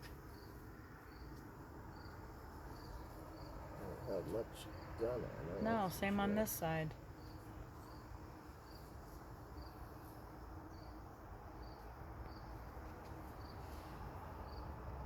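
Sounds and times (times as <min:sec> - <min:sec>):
cricket chirping: 0:00.0 - 0:15.0
honeybee colony humming: 0:00.0 - 0:15.0.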